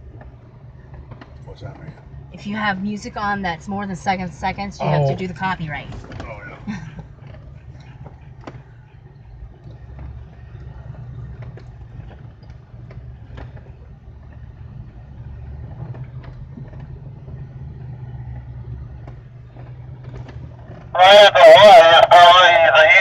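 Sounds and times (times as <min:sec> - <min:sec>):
engine running at low speed: 0:00.0 - 0:23.0.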